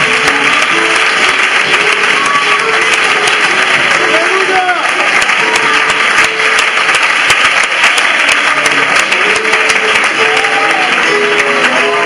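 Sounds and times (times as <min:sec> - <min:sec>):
congregation applauding: 0:00.0 - 0:12.0.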